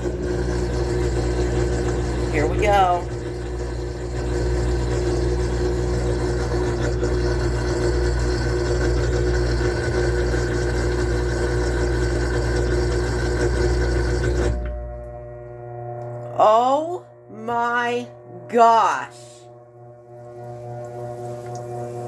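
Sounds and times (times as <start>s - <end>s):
washing machine spinning: 0.0s - 17.0s, 18.5s - 22.0s.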